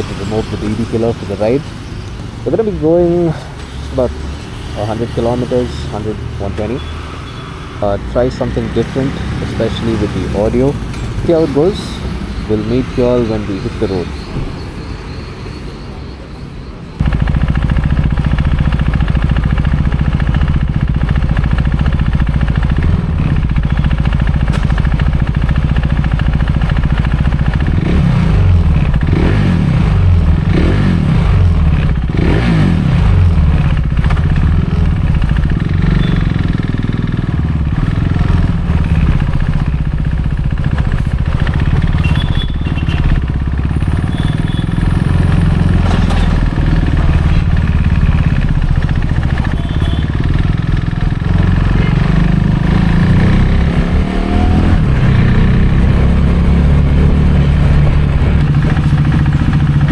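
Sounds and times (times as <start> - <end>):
loud motorcycle engine revving: 0.0 - 1.6, 2.4 - 14.2, 17.0 - 59.9.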